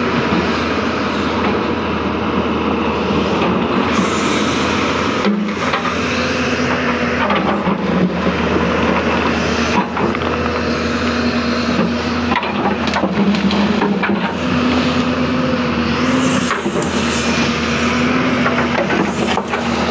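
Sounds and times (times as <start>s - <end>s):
excavator diesel engine droning: 0.0s - 19.9s.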